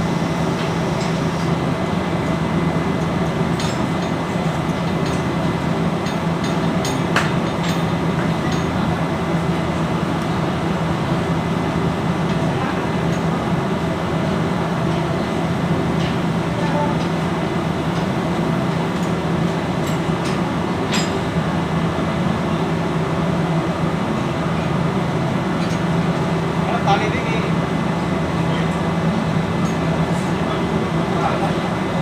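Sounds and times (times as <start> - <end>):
machinery drone: 0.0 - 32.0.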